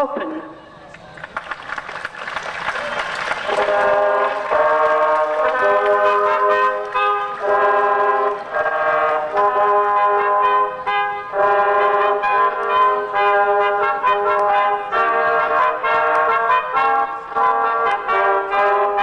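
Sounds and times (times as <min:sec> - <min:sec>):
brass music slow held chords: 0:03.4 - 0:19.0.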